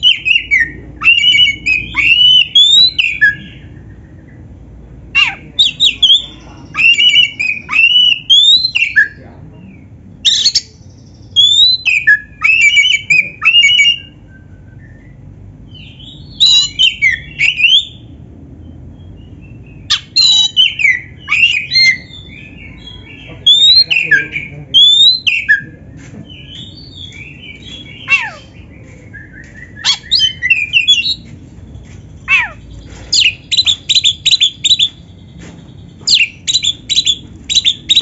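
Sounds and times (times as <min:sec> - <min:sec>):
bird singing whistled notes: 0:00.0 - 0:04.4, 0:05.6 - 0:09.2, 0:10.2 - 0:25.7, 0:26.3 - 0:31.3, 0:33.1 - 0:38.0.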